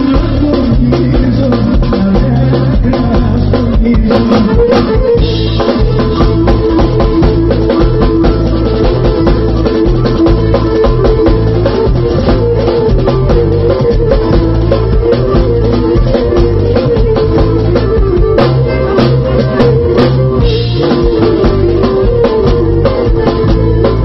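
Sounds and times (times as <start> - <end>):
drum kit beat: 0.0 - 24.0.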